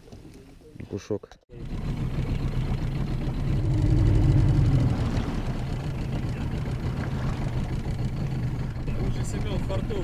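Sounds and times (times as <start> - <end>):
outboard motor droning: 1.5 - 10.0.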